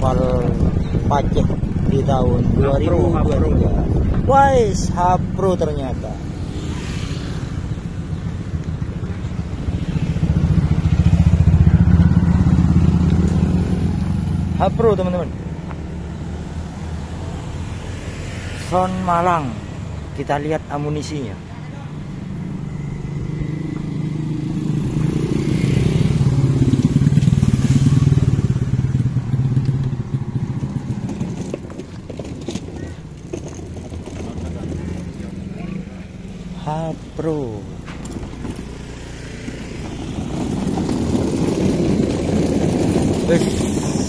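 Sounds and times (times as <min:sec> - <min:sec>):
motorcycle riding past: 0:05.2 - 0:20.4, 0:21.4 - 0:44.0.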